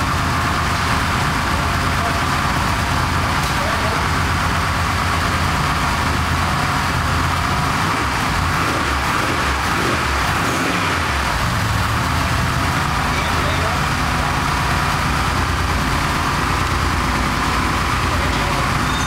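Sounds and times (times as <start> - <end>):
car engine idling loudly: 0.0 - 19.0.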